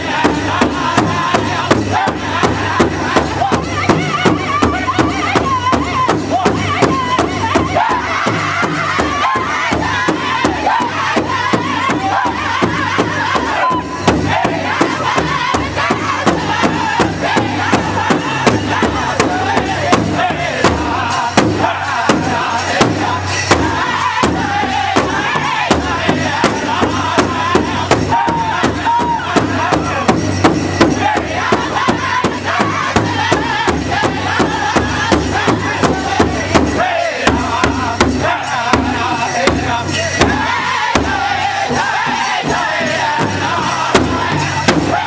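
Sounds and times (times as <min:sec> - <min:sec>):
high-pitched group singing: 0:00.0 - 0:45.0
large hide drum beating: 0:00.0 - 0:45.0.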